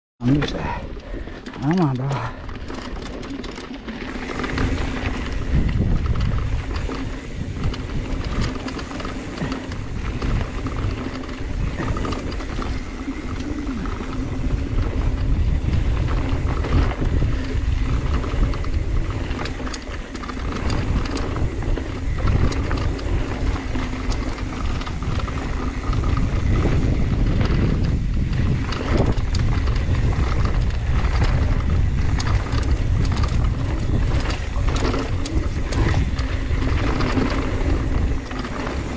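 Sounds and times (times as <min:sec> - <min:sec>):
tyres rolling over dirt: 0:00.2 - 0:38.9
wind buffeting microphone: 0:00.5 - 0:38.9
bike clattering over bumps: 0:01.0 - 0:38.9.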